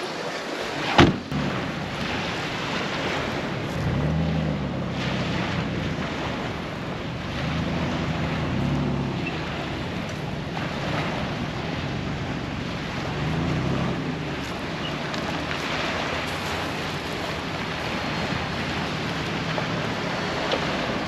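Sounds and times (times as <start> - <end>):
waves washing on shore: 0.0 - 21.0
wind buffeting microphone: 0.7 - 21.0
vehicle engine running low: 1.0 - 21.0.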